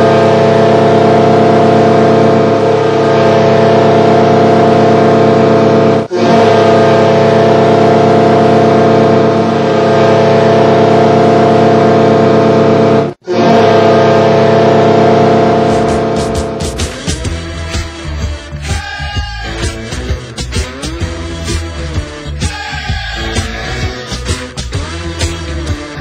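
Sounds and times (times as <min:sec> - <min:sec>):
goal horn blasts: 0:00.0 - 0:26.0.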